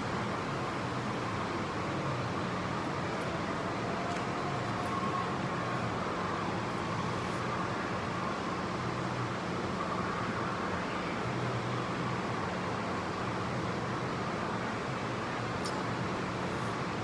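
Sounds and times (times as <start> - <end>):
ventilation hum and hiss: 0.0 - 17.0.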